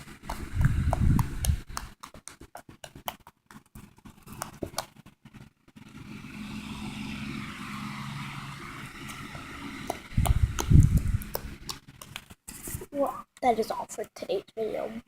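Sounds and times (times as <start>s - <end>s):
steady low hum: 0.0s - 3.0s, 3.8s - 13.8s.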